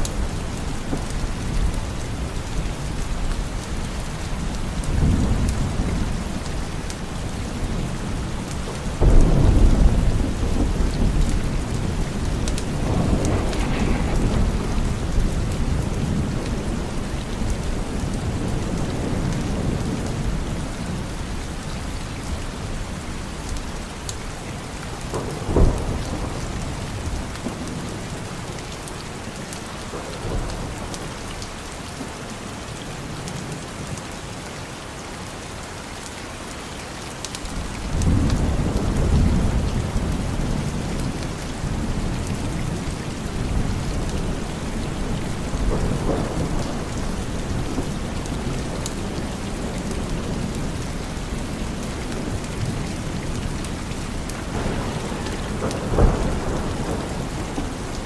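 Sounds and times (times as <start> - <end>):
thunder clap and rumble: 0.0 - 31.4, 37.5 - 58.0
steady rain: 0.0 - 58.0.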